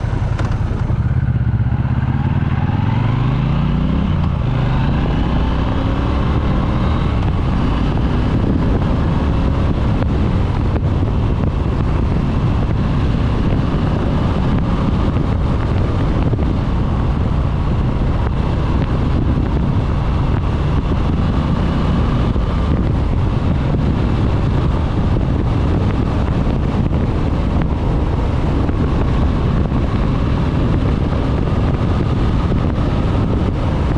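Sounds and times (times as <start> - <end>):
motorcycle engine accelerating: 0.0 - 33.9
wind rushing past microphone: 0.0 - 33.9.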